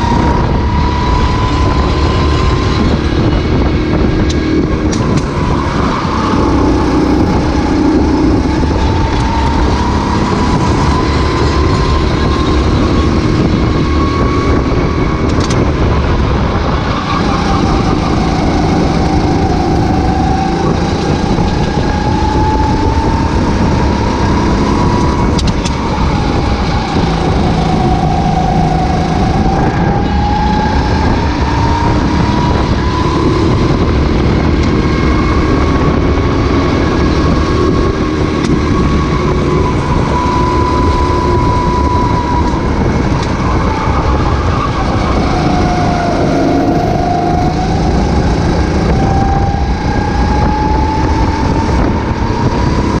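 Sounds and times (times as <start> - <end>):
racing kart engine: 0.0 - 53.0.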